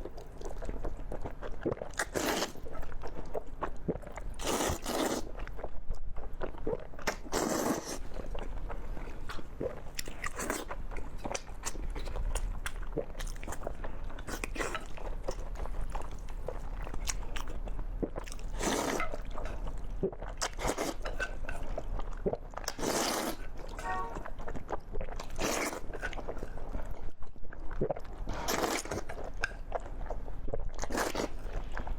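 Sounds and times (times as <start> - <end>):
chewing: 0.0 - 27.0, 27.7 - 31.9.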